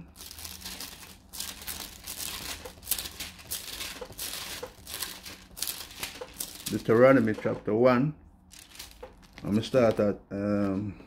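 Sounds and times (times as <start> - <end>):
paper pages rustling: 0.1 - 7.7, 8.5 - 10.8.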